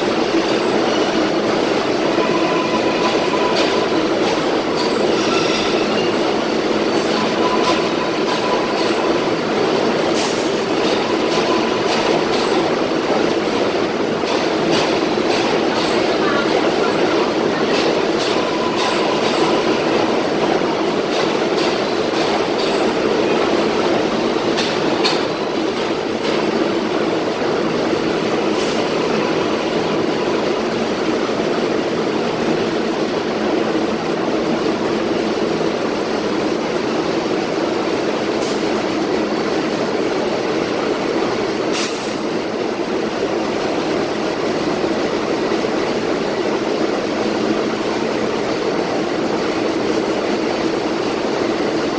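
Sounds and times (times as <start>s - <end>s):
subway train running: 0.0s - 51.9s.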